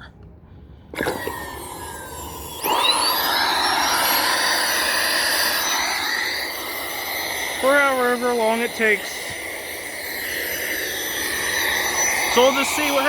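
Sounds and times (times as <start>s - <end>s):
vacuum cleaner motor whine: 1.0s - 13.0s.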